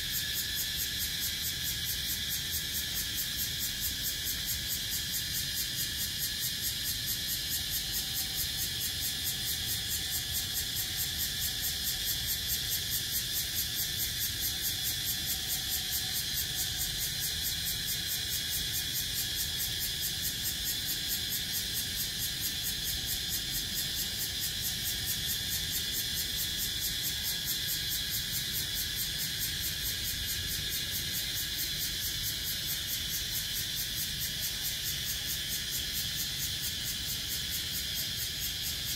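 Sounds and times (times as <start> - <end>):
cicadas chorus pulsing: 0.0 - 38.9.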